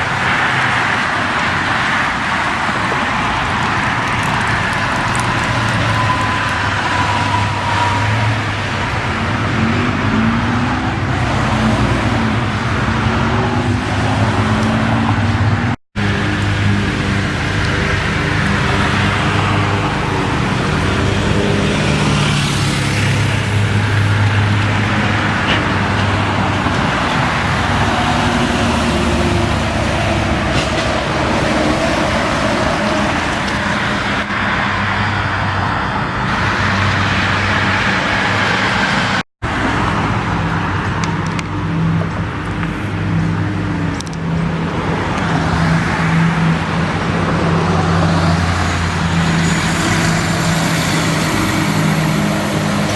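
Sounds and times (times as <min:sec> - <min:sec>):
trucks driving past: 0:00.0 - 0:52.9
tyre and road noise: 0:00.0 - 0:52.9.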